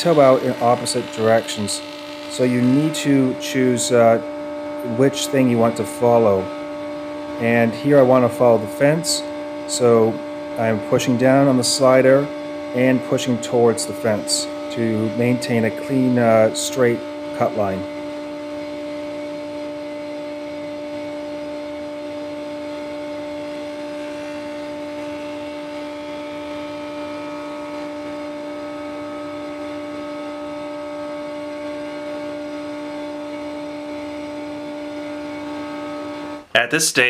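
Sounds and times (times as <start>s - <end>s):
table saw cutting wood: 0.0s - 36.5s.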